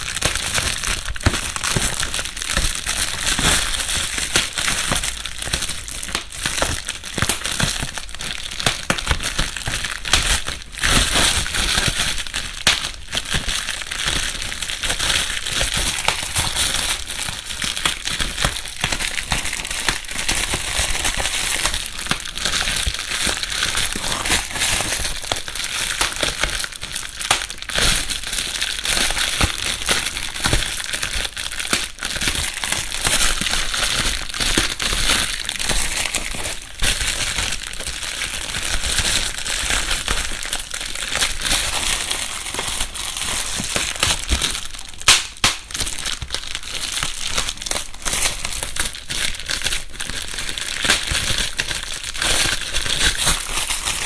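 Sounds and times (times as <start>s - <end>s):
bubble wrap crinkling and popping: 0.0s - 54.0s.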